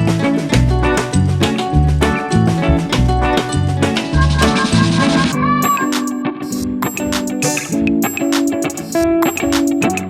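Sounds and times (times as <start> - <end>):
salsa-like music with bass: 0.0 - 8.2.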